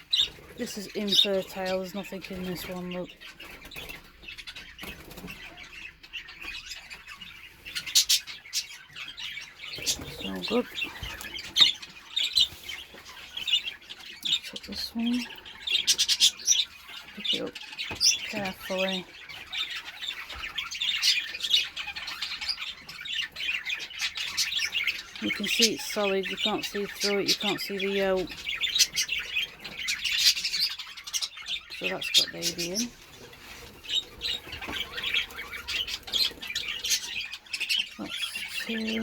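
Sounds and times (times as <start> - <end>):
budgerigars chattering and chirping: 0.0 - 39.0.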